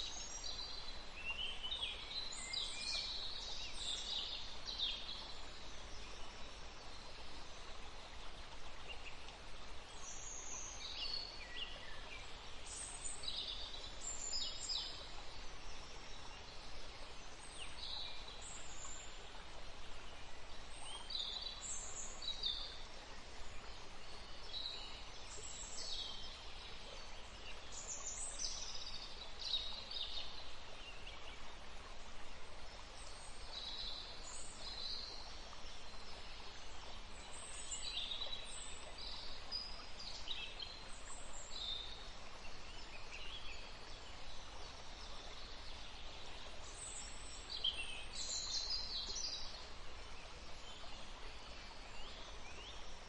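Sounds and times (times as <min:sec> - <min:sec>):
songbirds chirping: 0:00.0 - 0:53.0
steady background hiss: 0:00.0 - 0:53.0.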